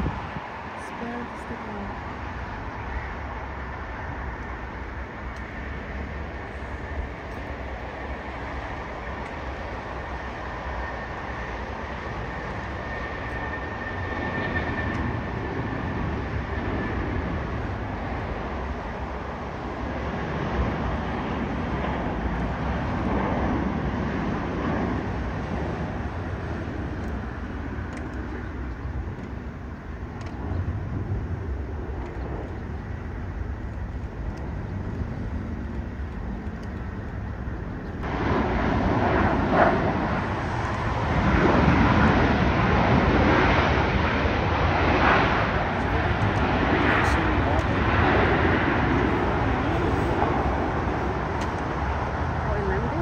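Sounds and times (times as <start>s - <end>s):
bright jet engine noise: 0.0s - 53.0s
jet airliner engines rumbling: 0.0s - 53.0s.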